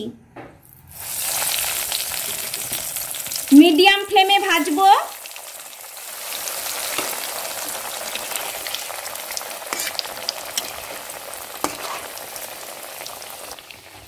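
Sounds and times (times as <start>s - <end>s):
fish deep-frying in hot oil: 0.9s - 14.0s.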